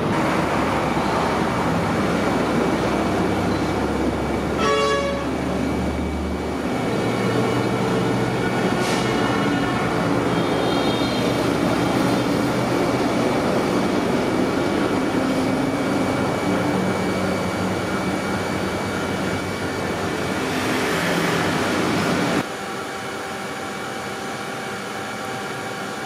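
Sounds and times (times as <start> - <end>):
diesel truck engine passing: 0.0 - 22.4
road noise: 0.0 - 22.4.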